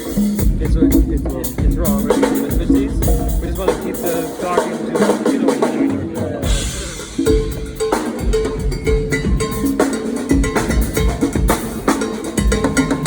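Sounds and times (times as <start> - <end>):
drum kit: 0.0 - 13.0
live band playing: 0.0 - 13.0.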